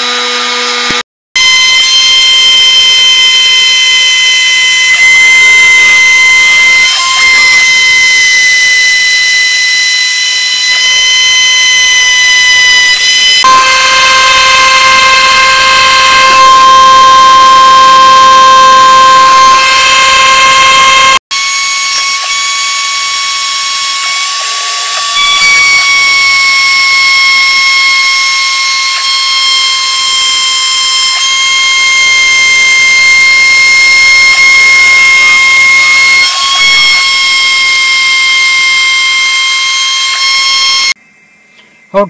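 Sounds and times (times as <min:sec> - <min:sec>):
router spindle whining: 0:00.0 - 0:41.0.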